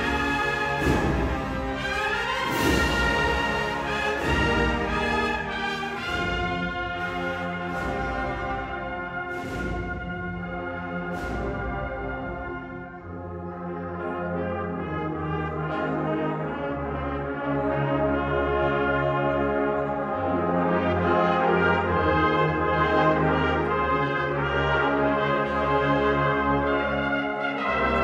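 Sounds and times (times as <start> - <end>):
brass band playing chords: 0.0 - 28.0.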